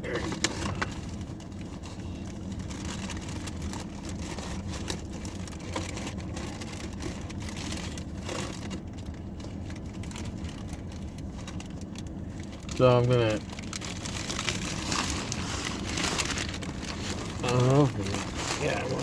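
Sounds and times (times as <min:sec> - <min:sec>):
sandwich wrapper crinkling: 0:00.0 - 0:19.0
steady low rumble: 0:00.0 - 0:19.0.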